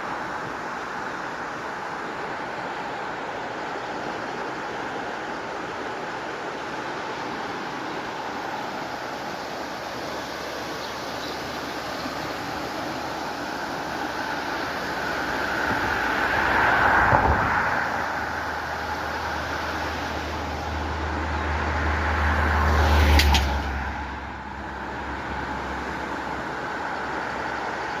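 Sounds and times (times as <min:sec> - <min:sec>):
flowing stream: 0:00.0 - 0:28.0.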